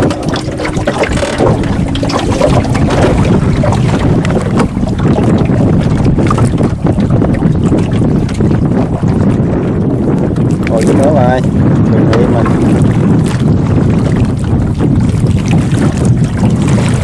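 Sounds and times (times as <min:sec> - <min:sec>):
water splashing against boat: 0:00.0 - 0:17.0
wind buffeting microphone: 0:00.0 - 0:17.0.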